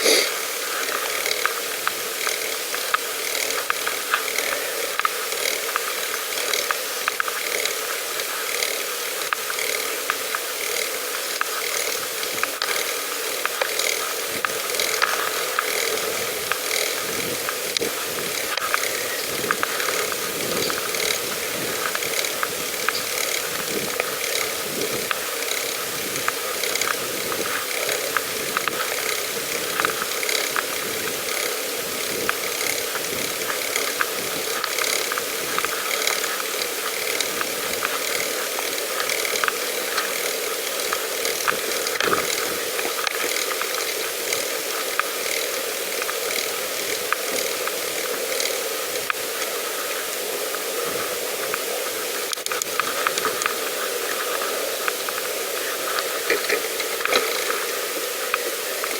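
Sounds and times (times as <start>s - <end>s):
bicycle rattling and clicking: 0.4s - 50.0s, 51.4s - 58.9s.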